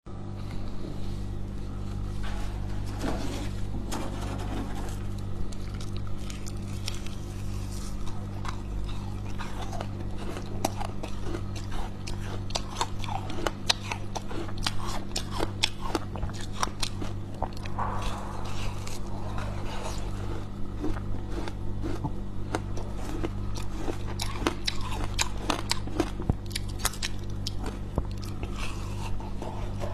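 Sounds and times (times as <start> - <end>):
low hum: 0.1 - 14.3, 15.0 - 29.9.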